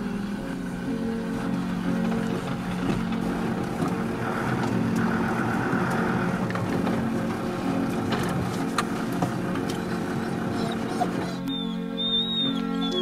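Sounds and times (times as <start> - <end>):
car engine running: 0.0 - 11.6
faint rattles: 0.6 - 11.6.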